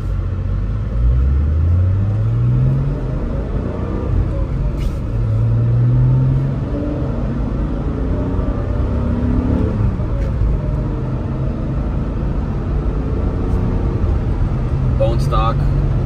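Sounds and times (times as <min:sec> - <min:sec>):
car engine running: 0:00.0 - 0:16.0
low road rumble: 0:00.0 - 0:16.0.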